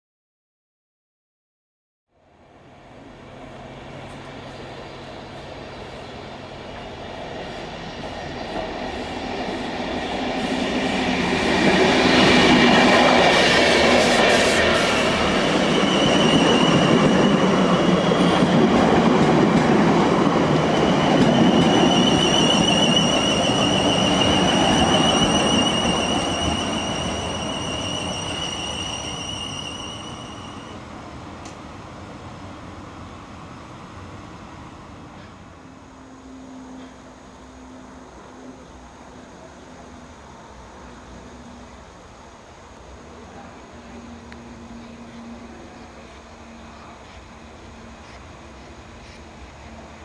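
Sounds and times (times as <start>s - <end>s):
train rumbling past: 2.2s - 50.0s
high wavering train whine: 2.3s - 50.0s.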